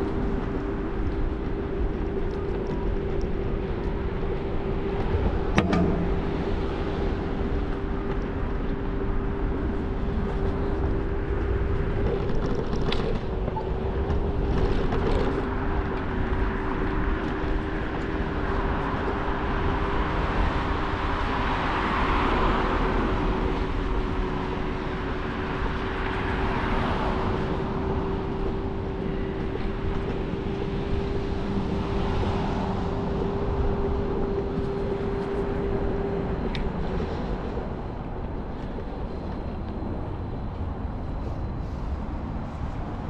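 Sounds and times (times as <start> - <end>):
scooter motor whine: 0.0 - 41.5
wind rumbling on microphone: 0.0 - 43.0.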